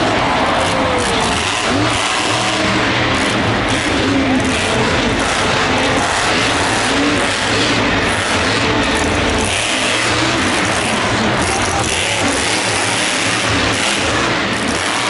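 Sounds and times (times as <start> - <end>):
truck engine revving loudly: 0.0 - 15.0.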